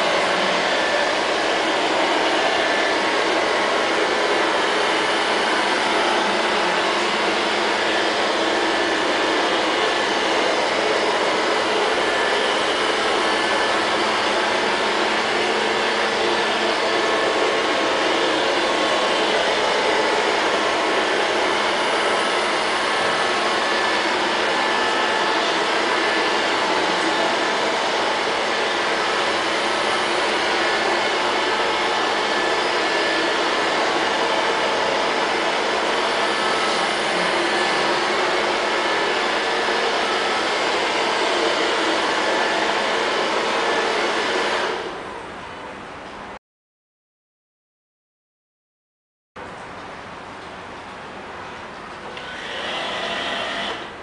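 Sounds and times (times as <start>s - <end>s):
robot vacuum cleaner whirring: 0.0s - 45.2s, 52.1s - 54.0s.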